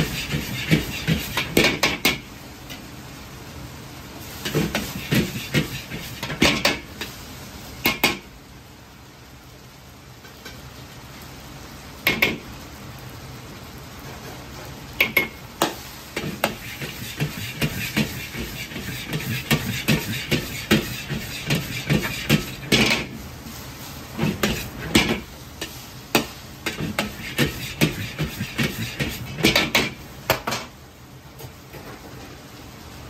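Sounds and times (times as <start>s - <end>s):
food sizzling: 0.0s - 30.4s.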